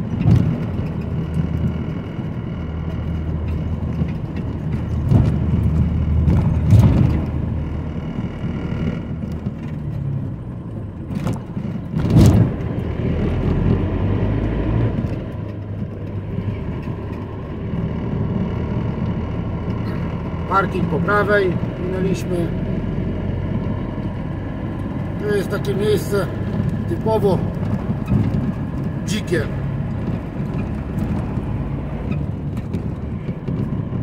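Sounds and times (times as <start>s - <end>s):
wheels thumping over speed bump: 0.0s - 21.8s, 23.4s - 34.0s
car engine running: 0.0s - 34.0s
tyres rumbling over brick road: 0.0s - 34.0s.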